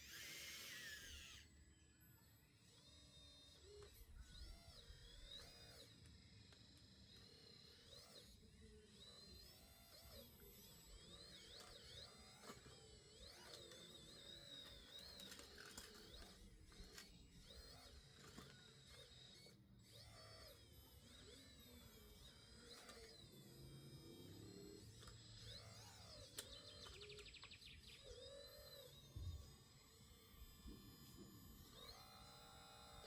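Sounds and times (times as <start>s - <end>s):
small electric motor whine: 0.0s - 33.0s.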